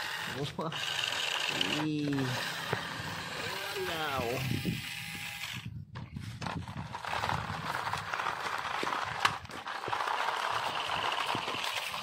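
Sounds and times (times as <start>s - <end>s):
toy car rattling over gravel: 0.0s - 12.0s.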